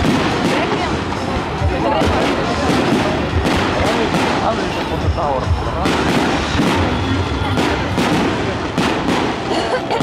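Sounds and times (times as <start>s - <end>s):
fireworks bursting: 0.0s - 10.0s
loud melodic music: 0.0s - 10.0s.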